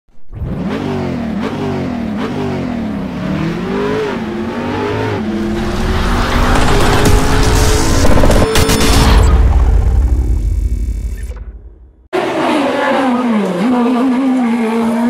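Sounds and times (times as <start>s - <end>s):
car engine accelerating: 0.3s - 15.0s.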